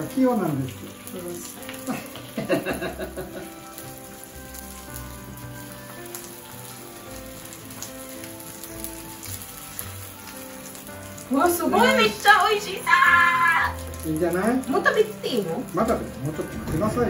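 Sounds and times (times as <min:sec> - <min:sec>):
batter sizzling on hot plate: 0:00.0 - 0:17.0
soft background music: 0:00.0 - 0:17.0.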